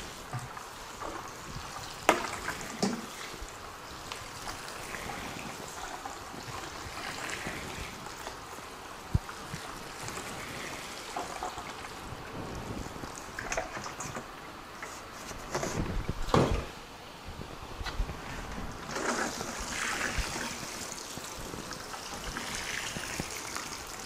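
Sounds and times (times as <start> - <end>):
water showering onto soil: 0.0 - 14.0, 18.1 - 24.0.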